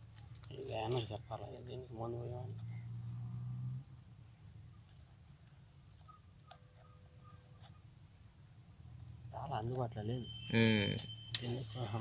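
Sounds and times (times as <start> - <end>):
insects trilling: 0.0 - 12.0
pulsing insect chirp: 0.0 - 12.0.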